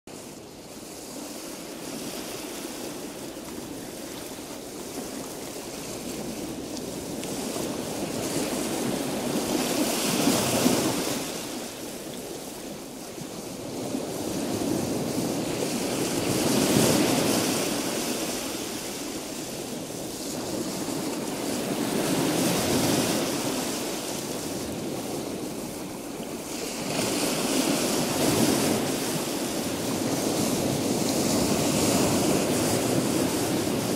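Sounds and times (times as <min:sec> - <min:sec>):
sea surf washing on beach: 0:00.1 - 0:33.9.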